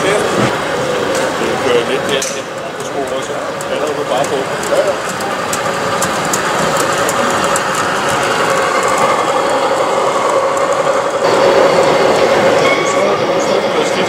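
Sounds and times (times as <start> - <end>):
model train mechanical whine: 0.0 - 14.0.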